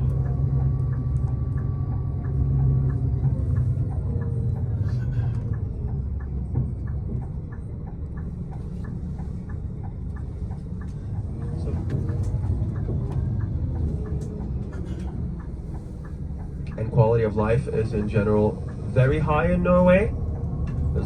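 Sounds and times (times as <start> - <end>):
light regular ticking: 0.0 - 21.0
vehicle engine rumble: 0.0 - 21.0.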